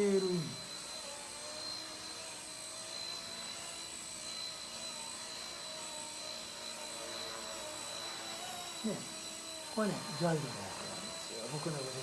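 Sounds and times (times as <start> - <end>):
micro helicopter rotors whining: 0.0 - 12.0.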